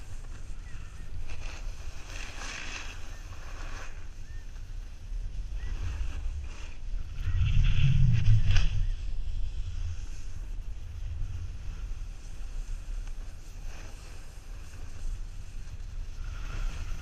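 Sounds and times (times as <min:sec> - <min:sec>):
snowboard scraping over snow: 0:00.0 - 0:17.0
wind rumbling on microphone: 0:00.0 - 0:17.0.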